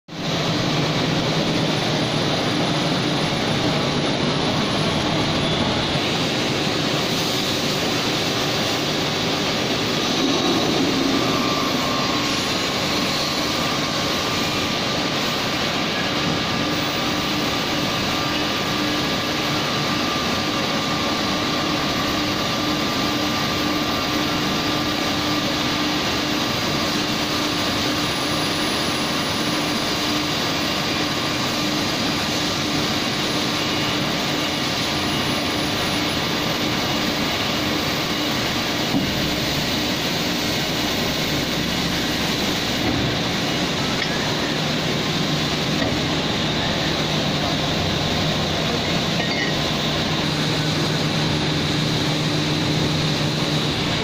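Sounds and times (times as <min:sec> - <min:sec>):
friction welding machine running: 0:00.1 - 0:54.0
steady hum: 0:00.1 - 0:54.0.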